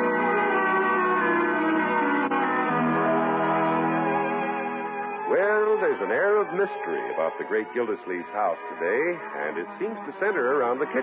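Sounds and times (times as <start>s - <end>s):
held instrumental chords: 0.0s - 11.0s.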